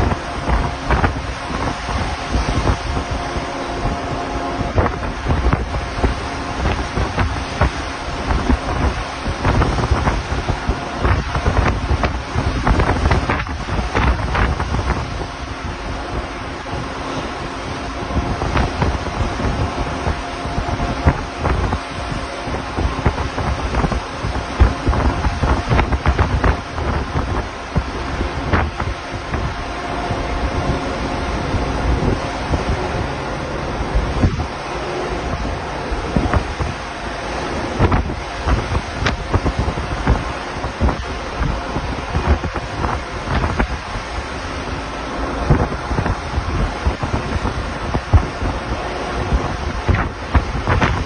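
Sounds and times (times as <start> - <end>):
sea waves breaking: 0.0 - 51.0
wind buffeting microphone: 0.0 - 51.0.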